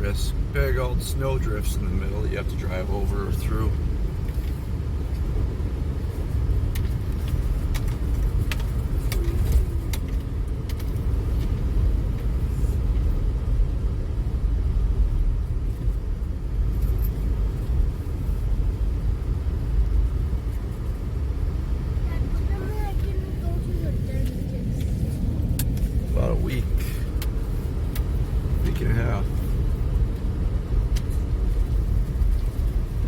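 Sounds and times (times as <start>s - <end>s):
truck road and engine rumble: 0.0s - 33.0s.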